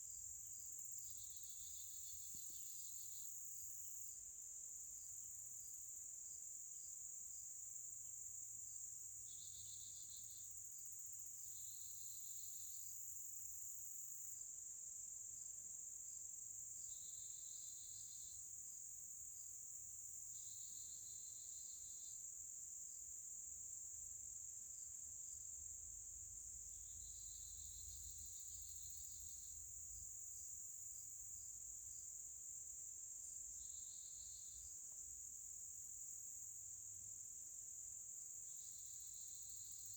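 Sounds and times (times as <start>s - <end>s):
lower insect trill: 0.0s - 39.9s.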